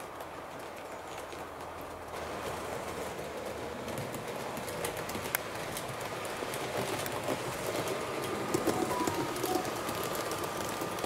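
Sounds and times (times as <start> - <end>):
model train rolling rumble: 0.0 - 11.0
wheels clicking over rail joints: 0.0 - 11.0.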